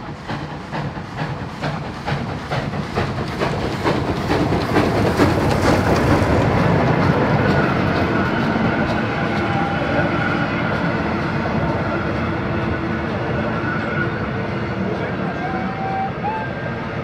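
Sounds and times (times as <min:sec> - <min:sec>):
steam locomotive exhaust chuffs: 0:00.0 - 0:17.0.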